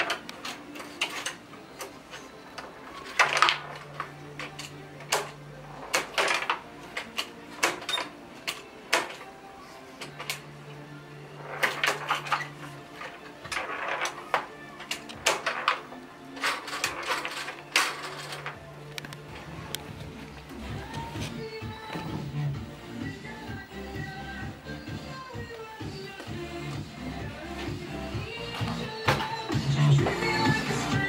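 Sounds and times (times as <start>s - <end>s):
foosball ball and players clacking: 0.0s - 22.4s, 26.2s - 31.0s.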